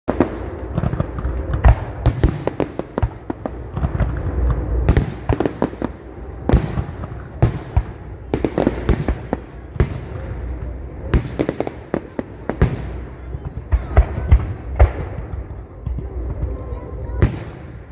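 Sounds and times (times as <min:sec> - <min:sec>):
continuous low rumble: 0:00.1 - 0:17.9
fireworks bursting with sharp bangs: 0:00.1 - 0:17.9.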